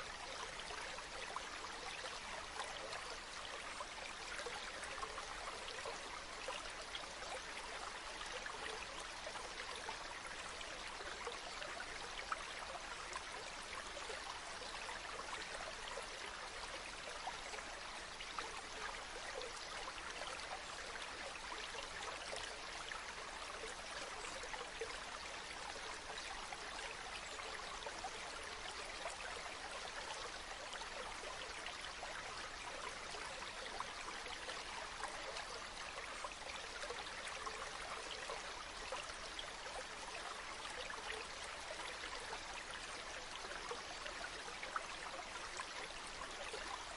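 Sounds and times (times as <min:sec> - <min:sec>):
stream babbling: 0:00.0 - 0:46.9.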